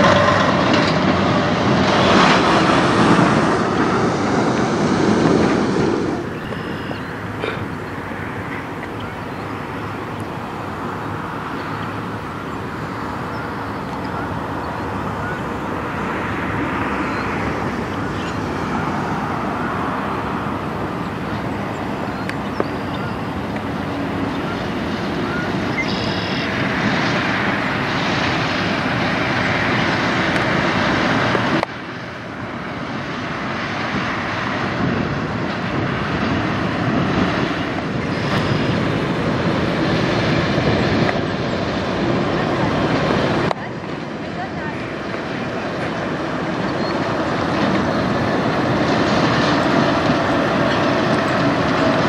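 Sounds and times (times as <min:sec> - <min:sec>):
truck driving by: 0:00.0 - 0:52.0.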